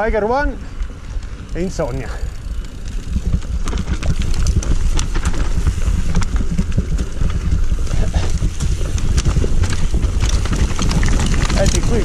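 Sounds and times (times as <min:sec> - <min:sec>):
bike rattling and knocking: 0:00.0 - 0:12.0
wind on camera: 0:00.7 - 0:12.0
tyres rolling over stones: 0:00.8 - 0:12.0.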